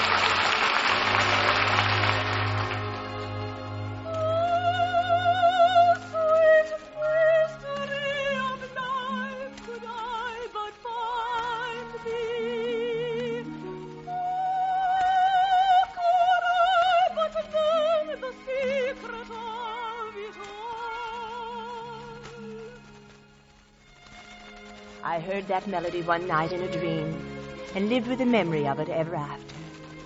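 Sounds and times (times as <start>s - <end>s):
soft orchestral accompaniment: 0.0s - 30.0s
operatic soprano singing: 3.7s - 23.1s, 25.0s - 30.0s.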